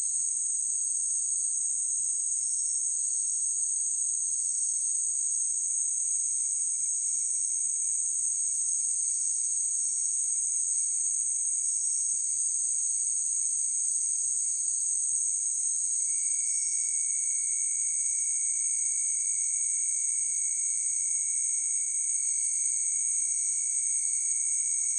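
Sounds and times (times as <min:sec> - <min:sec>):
crickets trilling: 0:00.0 - 0:24.9
lower insect trill: 0:00.0 - 0:24.9.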